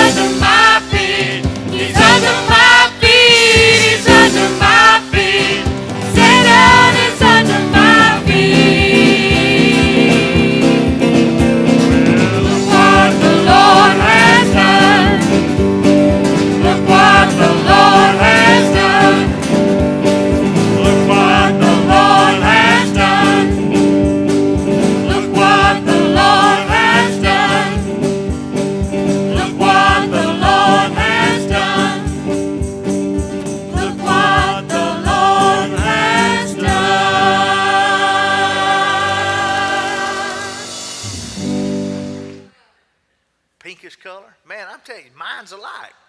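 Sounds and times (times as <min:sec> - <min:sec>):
congregation singing gospel: 0:00.0 - 0:41.4
band accompaniment: 0:00.0 - 0:42.5.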